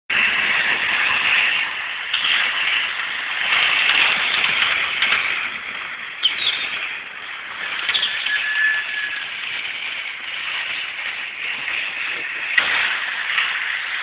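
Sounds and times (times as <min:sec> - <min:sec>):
model train motor whirring: 0:00.2 - 0:14.0.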